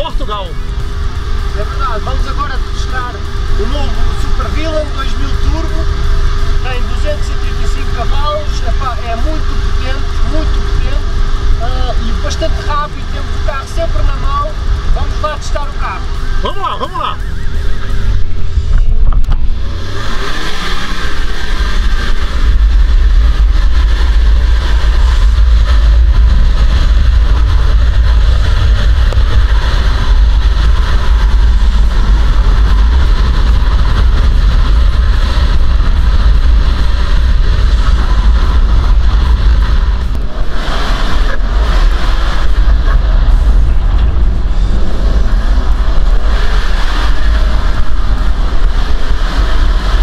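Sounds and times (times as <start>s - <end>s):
turbocharged engine running hard: 0.0s - 50.0s.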